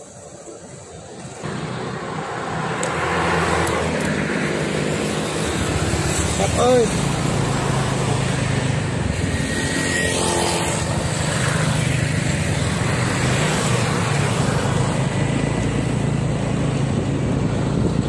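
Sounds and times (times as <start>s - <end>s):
vehicles passing: 0.0s - 18.0s
low engine drone: 0.3s - 18.0s.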